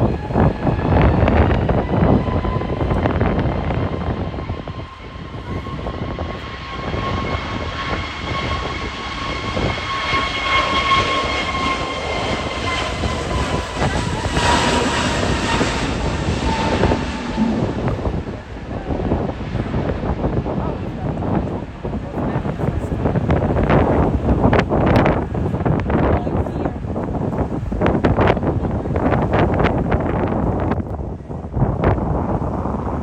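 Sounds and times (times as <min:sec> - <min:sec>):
jet engines whining: 0:00.0 - 0:30.8
wind buffeting microphone: 0:00.0 - 0:33.0.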